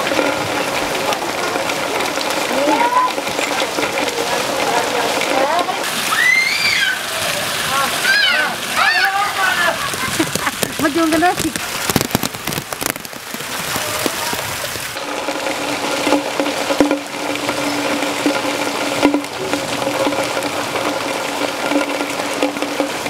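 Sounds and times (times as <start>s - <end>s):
rain on wet ground: 0.0s - 23.0s.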